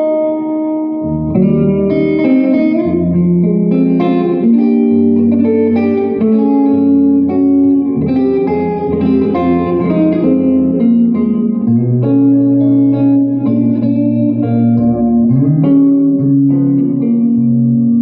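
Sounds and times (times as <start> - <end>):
blues guitar playing: 0.0 - 18.0.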